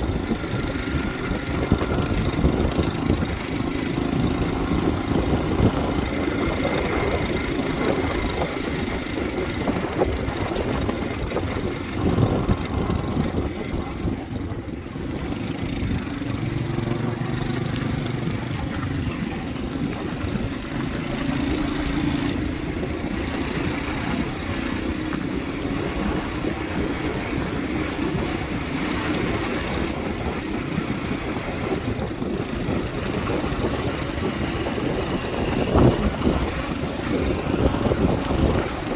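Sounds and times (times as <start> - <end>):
constant rushing noise: 0.0 - 38.9
motorbike engine hum: 0.0 - 38.9.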